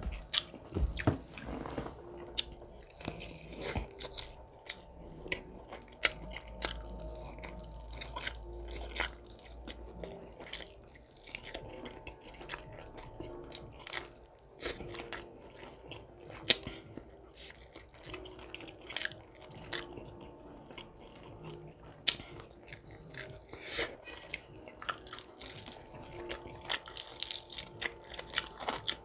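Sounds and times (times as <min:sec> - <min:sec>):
person chewing crunchy chicken: 0:00.0 - 0:29.0.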